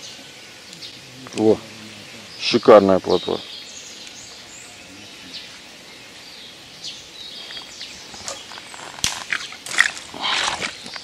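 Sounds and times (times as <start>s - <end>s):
open-air background noise: 0.0s - 11.0s.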